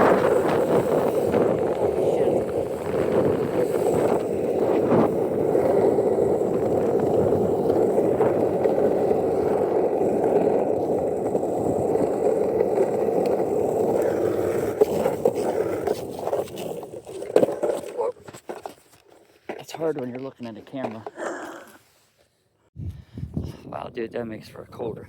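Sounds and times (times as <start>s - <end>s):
skateboard wheels rolling on asphalt: 0.0s - 22.1s.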